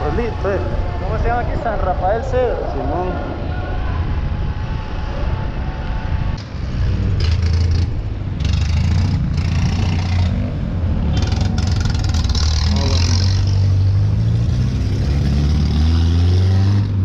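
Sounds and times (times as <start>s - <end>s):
wind rumble on microphone: 0.0s - 16.0s
motorcycle engine: 3.2s - 17.0s.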